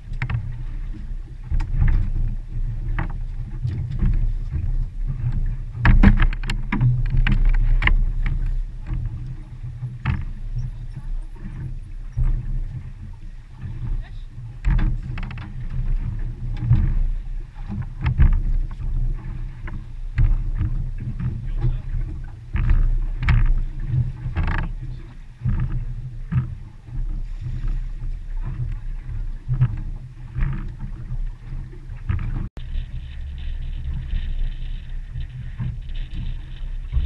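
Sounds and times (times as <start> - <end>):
waves slapping boat hull: 0.0 - 37.0
wind buffeting microphone: 0.0 - 37.0.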